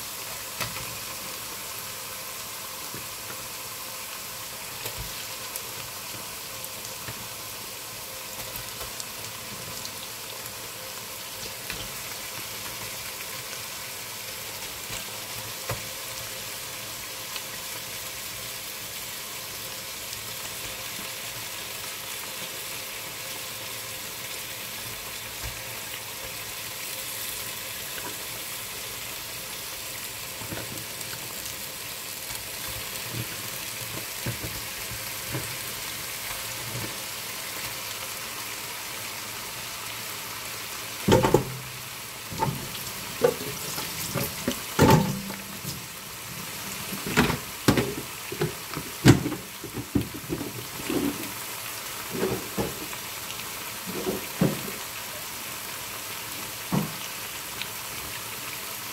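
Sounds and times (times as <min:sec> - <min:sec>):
meat sizzling in hot oil: 0:00.0 - 0:58.9.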